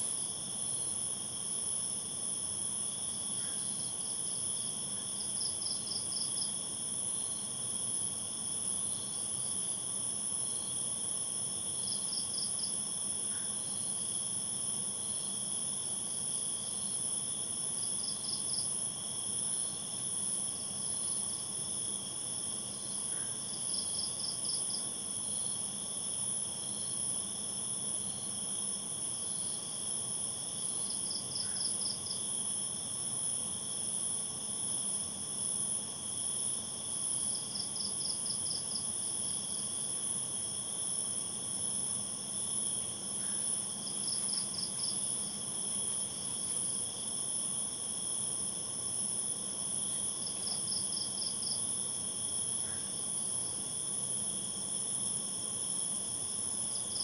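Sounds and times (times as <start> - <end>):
insect trills: 8.7 - 57.0.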